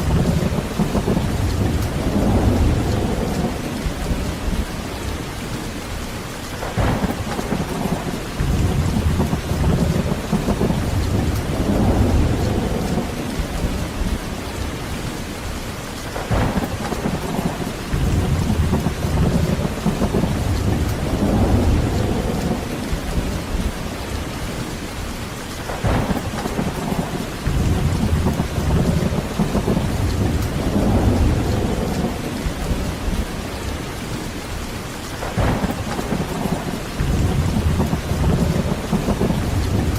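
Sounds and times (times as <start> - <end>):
thunder crack: 0.0 - 4.6, 6.6 - 14.2, 16.2 - 23.7, 25.7 - 33.3, 35.2 - 39.9
rolling thunder rumble: 0.0 - 5.4, 6.5 - 15.3, 16.0 - 39.9
heavy rain: 0.0 - 39.9.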